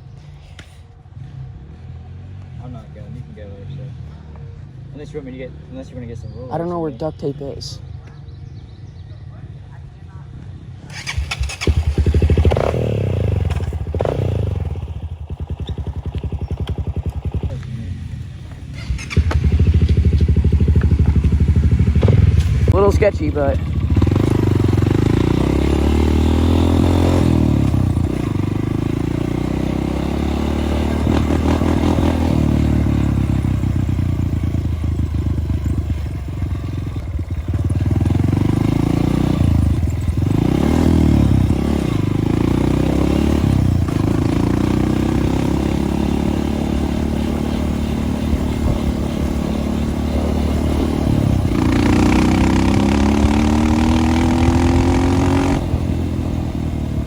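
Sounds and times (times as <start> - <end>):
dirt bike engine revving: 10.8 - 57.0.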